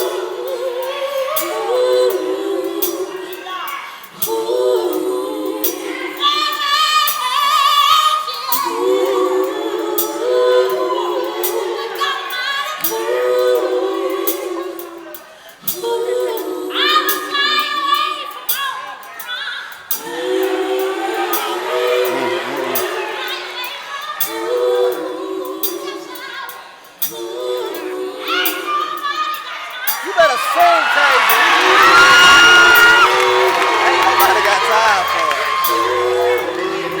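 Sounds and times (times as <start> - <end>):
women singing in close harmony: 0.0 - 34.4, 35.3 - 37.0.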